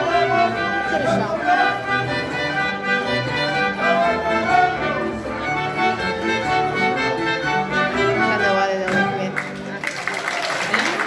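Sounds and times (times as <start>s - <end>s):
live folk band playing dance music: 0.0s - 11.0s.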